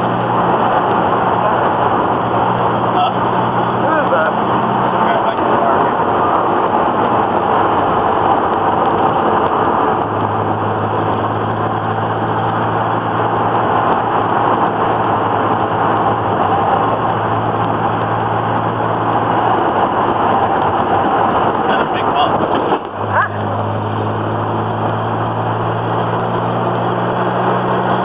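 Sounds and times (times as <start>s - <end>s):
low engine drone: 0.0s - 28.0s
rush of cabin noise: 0.0s - 28.0s.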